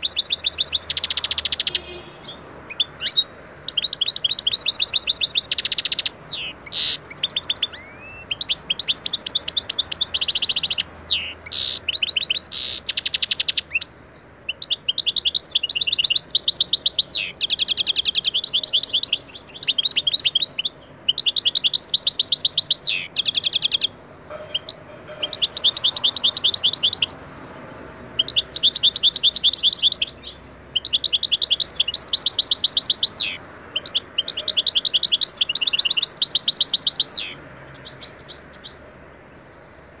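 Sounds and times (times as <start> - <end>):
finch twittering trills: 0.0 - 38.8.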